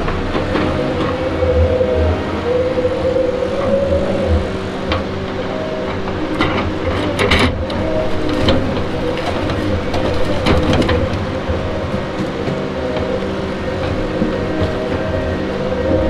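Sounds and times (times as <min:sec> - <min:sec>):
log loader engine whine: 0:00.0 - 0:16.0.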